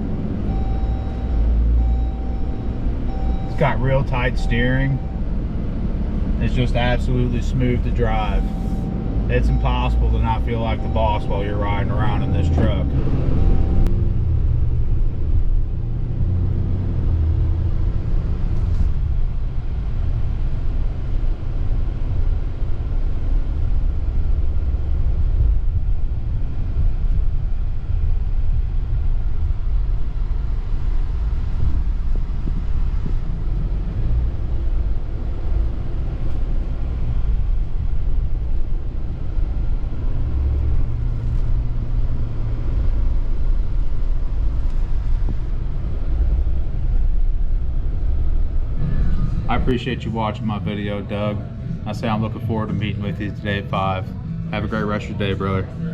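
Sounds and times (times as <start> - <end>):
diesel engine rumble: 0.0 - 55.9
road noise: 0.0 - 55.9.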